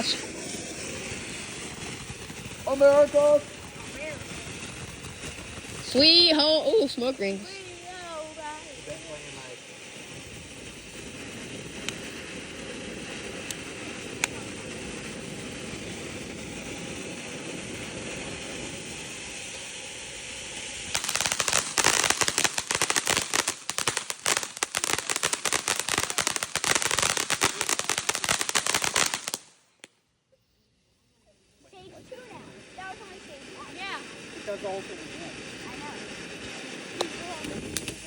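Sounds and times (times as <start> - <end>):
firework hissing spray: 0.0 - 29.6, 30.6 - 38.0
firework crackling bangs: 0.0 - 29.9, 31.6 - 38.0.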